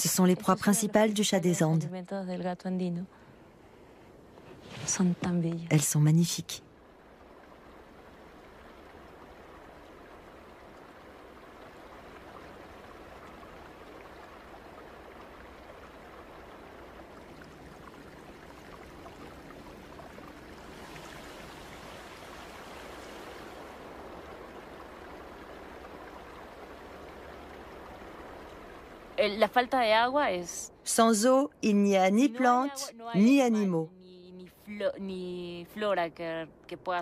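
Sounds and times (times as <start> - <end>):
stream flowing: 0.0 - 37.0.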